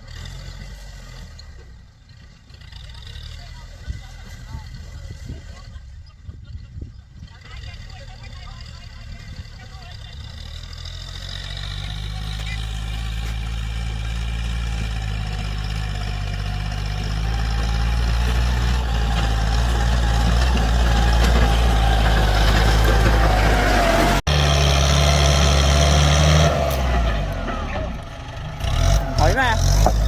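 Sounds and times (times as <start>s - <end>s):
another engine running: 0.0s - 30.0s
tractor engine running: 0.0s - 30.0s.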